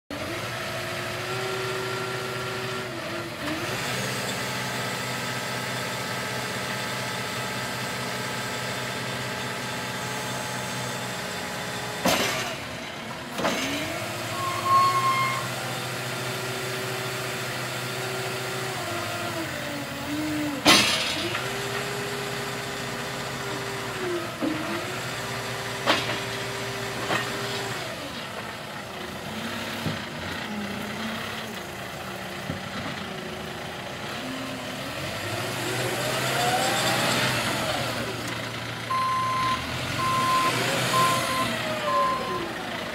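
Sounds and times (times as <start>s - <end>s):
diesel engine running: 0.1s - 42.9s.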